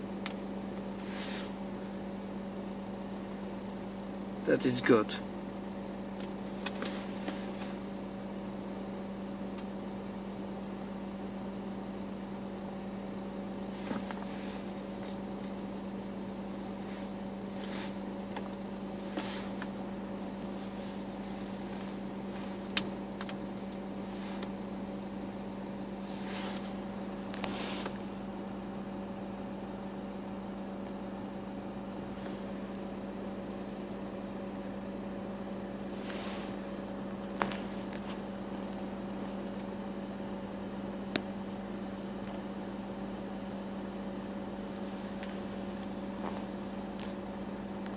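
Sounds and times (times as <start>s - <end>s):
car interior mechanical hum: 0.0s - 47.9s.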